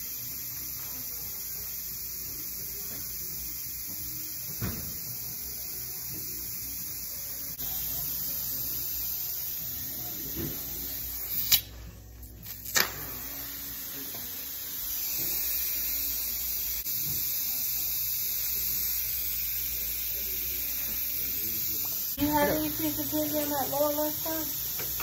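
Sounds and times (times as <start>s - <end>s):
dental equipment hissing: 0.0s - 25.0s.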